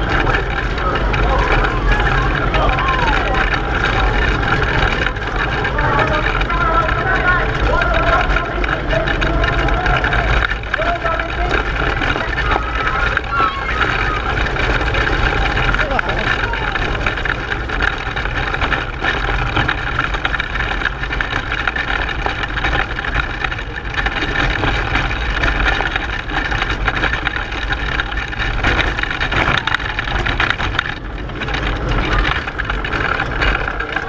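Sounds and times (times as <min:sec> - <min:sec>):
chassis rattling: 0:00.0 - 0:34.0
tyres rolling on road: 0:00.0 - 0:34.0.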